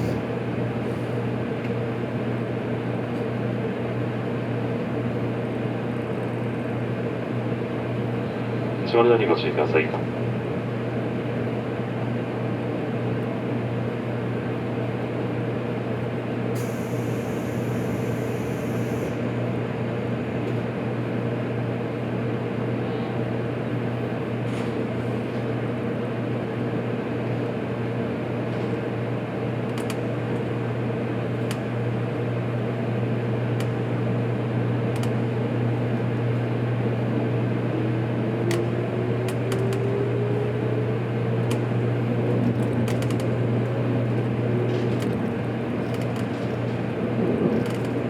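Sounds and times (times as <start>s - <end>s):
electric train low hum: 0.0s - 48.0s.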